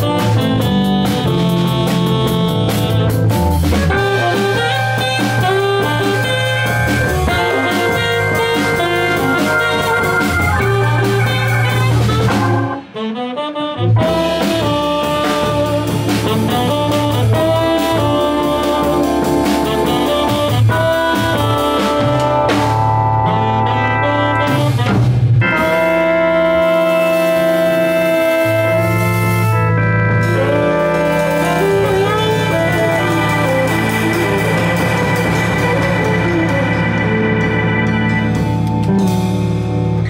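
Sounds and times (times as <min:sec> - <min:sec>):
jazz band playing live: 0:00.0 - 0:40.0.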